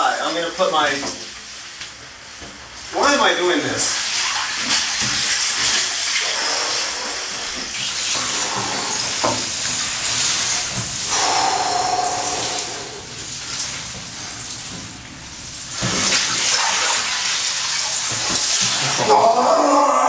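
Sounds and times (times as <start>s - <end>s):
water sloshing in a bathtub: 0.0s - 20.0s.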